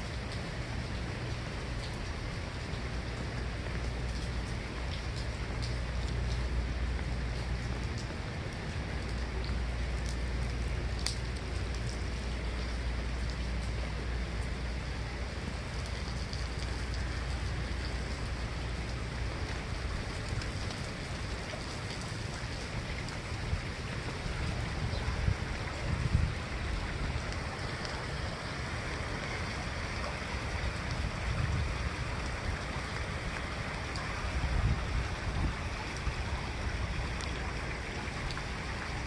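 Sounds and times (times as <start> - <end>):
heavy rain on standing water: 0.0 - 39.0.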